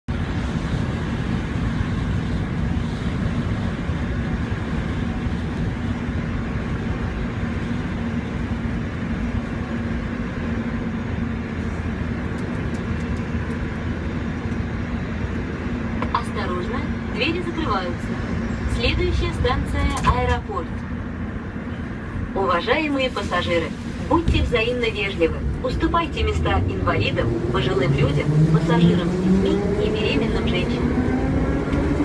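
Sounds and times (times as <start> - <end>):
metro train rumbling: 0.0 - 32.0.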